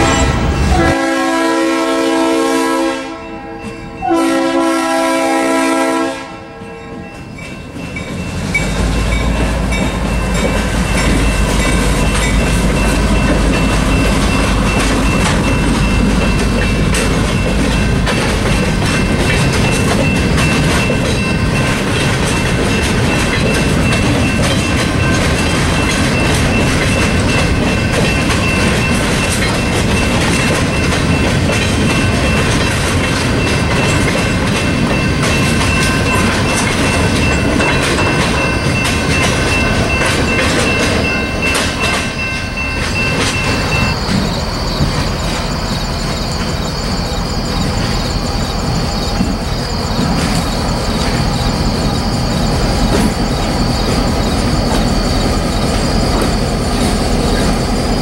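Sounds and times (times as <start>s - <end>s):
train wheels clattering on rails: 6.9s - 58.0s.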